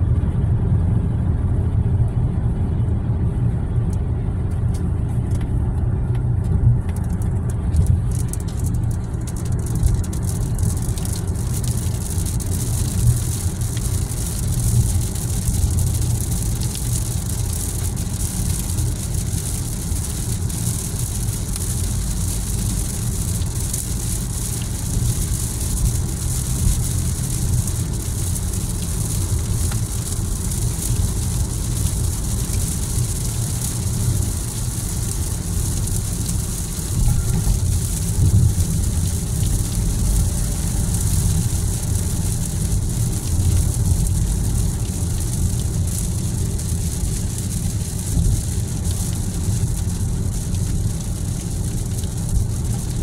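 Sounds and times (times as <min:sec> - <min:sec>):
tyre and engine rumble: 0:00.0 - 0:53.0
hiss of wet tyres and rain: 0:06.2 - 0:53.0.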